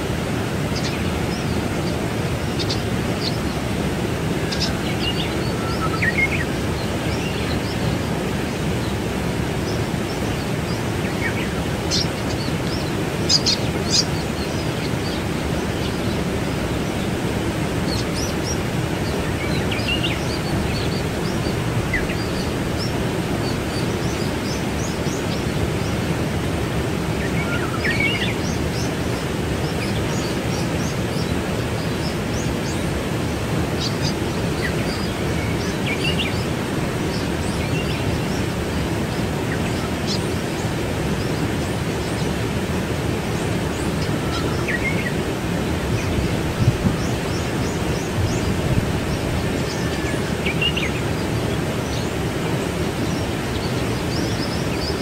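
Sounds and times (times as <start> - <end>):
waterfall rushing: 0.0 - 55.0
small birds chirping: 0.4 - 55.0.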